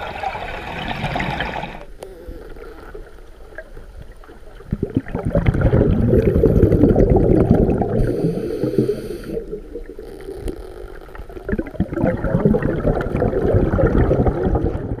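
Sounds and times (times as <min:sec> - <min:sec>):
underwater bubbles gurgling: 0:00.0 - 0:15.0.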